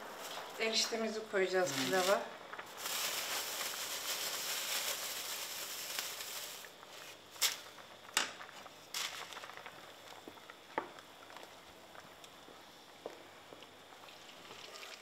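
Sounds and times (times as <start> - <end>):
pot boiling with frothy hiss: 0.0 - 15.0.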